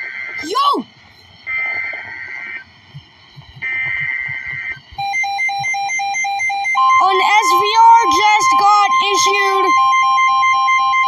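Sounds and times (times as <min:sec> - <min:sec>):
digital warbling data tones: 0:00.0 - 0:11.0
rapid pulsed alert beeps: 0:01.1 - 0:11.0.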